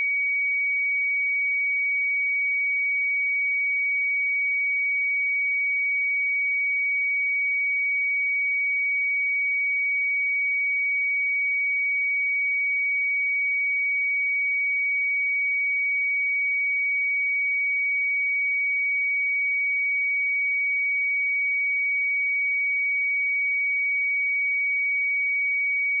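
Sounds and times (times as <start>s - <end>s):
sine test tone: 0.0s - 26.0s.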